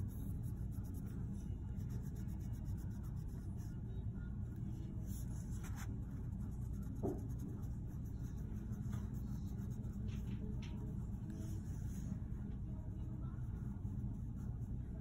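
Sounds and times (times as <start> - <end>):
colored pencil scratching on paper: 0.0 - 3.9, 4.8 - 15.0
steady low hum: 0.0 - 15.0.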